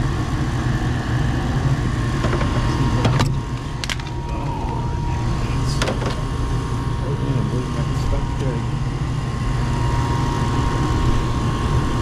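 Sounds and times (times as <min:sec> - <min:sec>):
faint steady whine: 0:00.0 - 0:12.0
furnace motor hum: 0:00.0 - 0:12.0.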